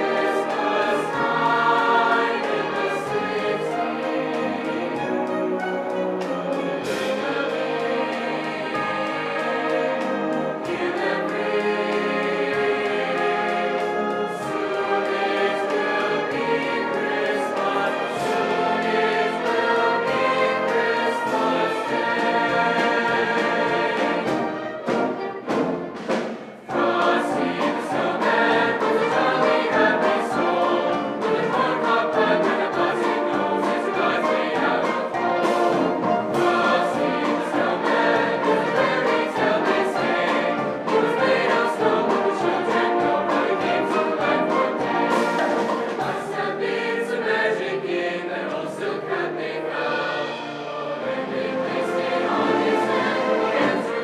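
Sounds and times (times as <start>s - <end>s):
choir singing: 0.0s - 54.0s
instrumental accompaniment: 0.0s - 54.0s.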